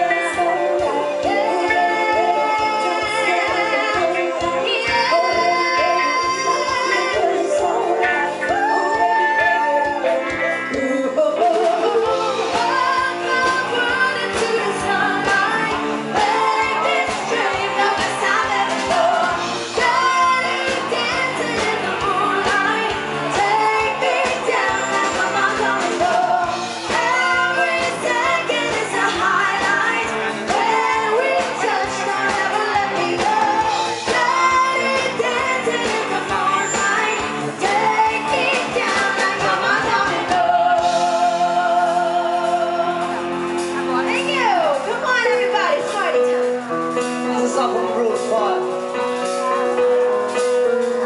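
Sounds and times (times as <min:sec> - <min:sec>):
pop song with vocals: 0:00.0 - 0:51.0.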